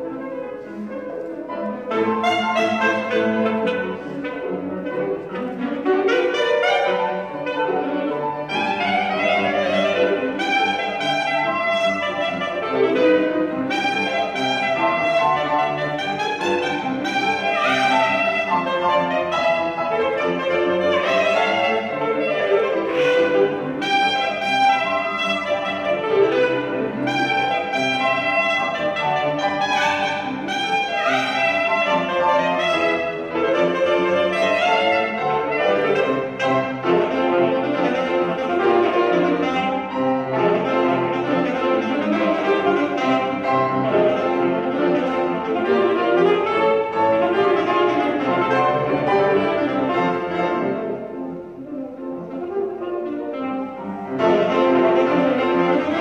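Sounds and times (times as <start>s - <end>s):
piano: 0.0s - 56.0s
saxophone: 0.0s - 56.0s.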